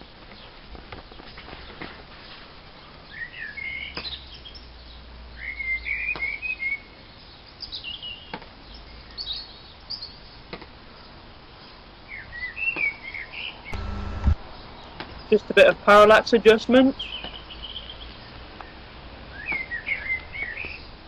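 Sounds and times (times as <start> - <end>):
songbirds chirping and twittering: 0.0 - 13.7, 14.4 - 21.0.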